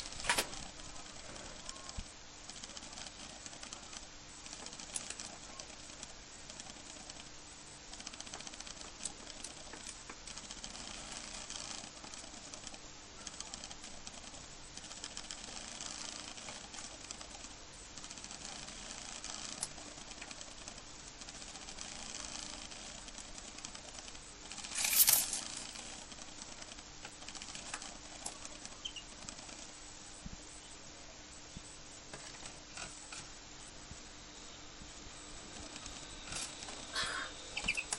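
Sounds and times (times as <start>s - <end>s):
bird pecking and scratching: 0.0s - 7.3s, 7.9s - 29.8s, 32.1s - 33.3s, 35.5s - 37.9s
faint steady hum: 0.0s - 37.9s.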